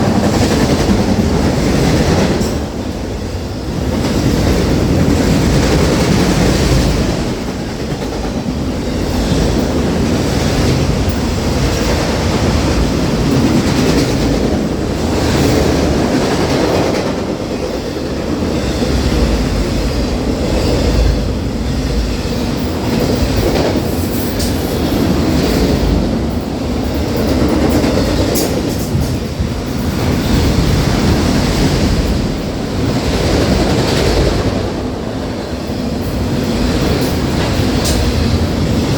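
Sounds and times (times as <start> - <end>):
freight train rumble: 0.0 - 38.9.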